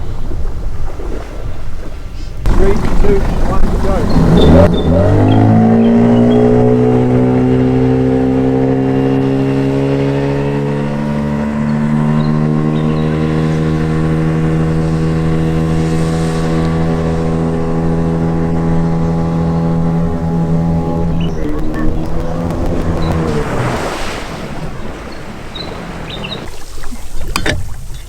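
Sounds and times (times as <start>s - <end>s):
outboard motor at full throttle: 2.4s - 28.0s.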